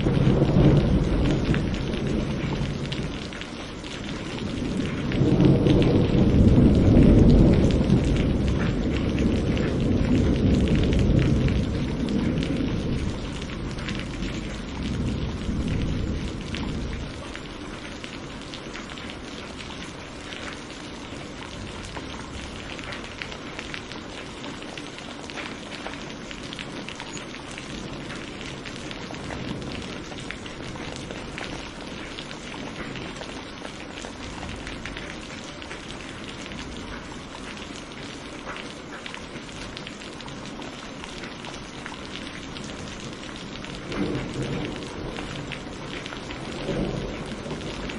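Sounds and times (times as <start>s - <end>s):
thunder rumble: 0.0s - 24.3s, 25.4s - 37.0s, 42.3s - 47.9s
heavy rain pattering: 0.0s - 47.9s.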